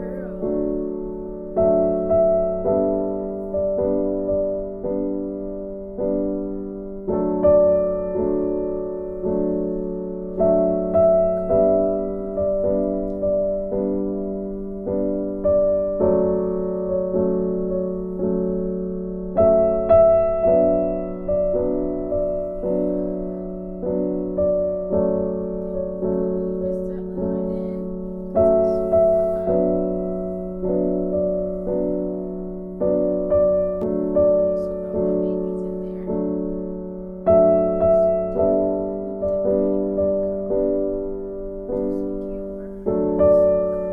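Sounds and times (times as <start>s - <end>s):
soft piano chords: 0.0s - 43.9s.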